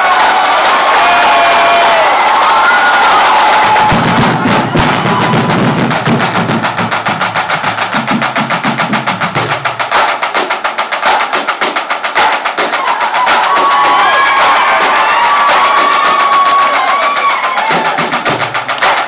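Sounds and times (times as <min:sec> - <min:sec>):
snare drumline playing: 0:00.0 - 0:19.0
deeper drums: 0:03.5 - 0:19.0.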